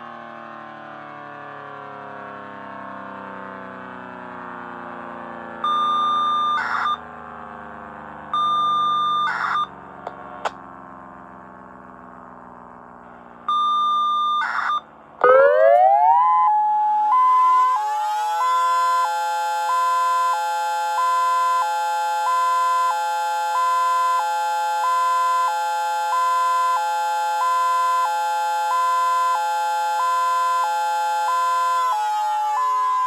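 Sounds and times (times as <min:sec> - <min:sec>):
electronic hi-lo siren: 0:00.1 - 0:10.1, 0:10.7 - 0:33.0.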